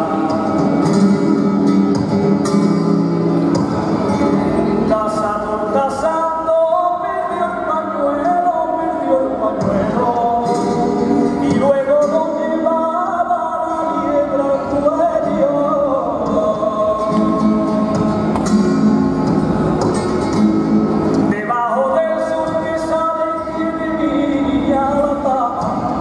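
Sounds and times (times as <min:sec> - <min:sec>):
man singing melismatic lines: 0:00.0 - 0:01.6, 0:04.1 - 0:18.9, 0:21.2 - 0:26.0
flamenco guitar: 0:00.0 - 0:26.0.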